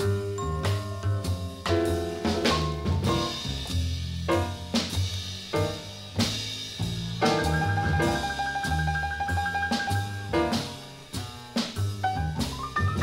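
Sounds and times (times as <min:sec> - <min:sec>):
jazz piano trio playing: 0:00.0 - 0:13.0.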